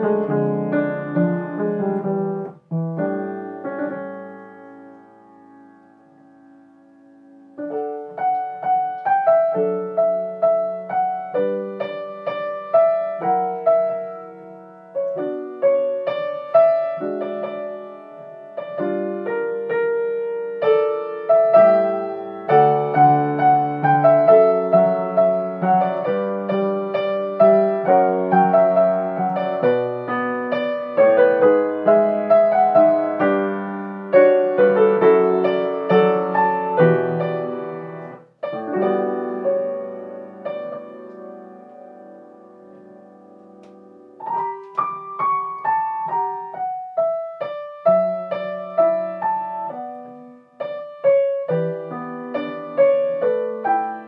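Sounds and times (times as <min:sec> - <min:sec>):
solo grand piano playing: 0:00.0 - 0:54.0.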